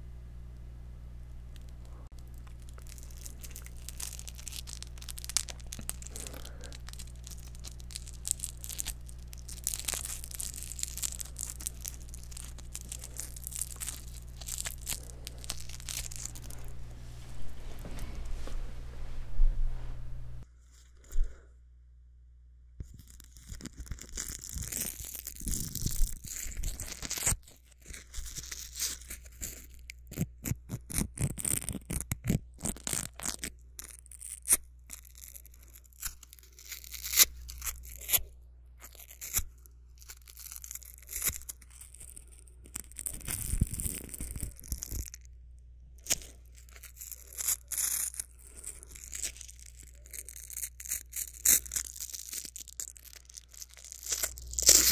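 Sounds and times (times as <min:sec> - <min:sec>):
velcro ripping: 0:02.2 - 0:18.2, 0:22.8 - 0:45.3, 0:46.0 - 0:54.9.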